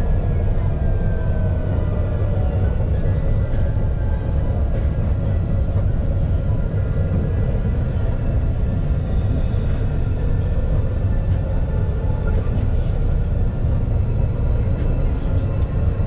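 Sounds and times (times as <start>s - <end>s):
tram drive whine: 0.0s - 16.0s
tram wheels rumbling on rail: 0.0s - 16.0s.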